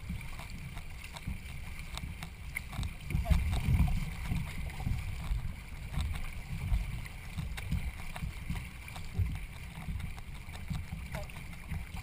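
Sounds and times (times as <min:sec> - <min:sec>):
paddle splashes and knocks: 0:00.0 - 0:12.0
wind on microphone: 0:00.0 - 0:12.0.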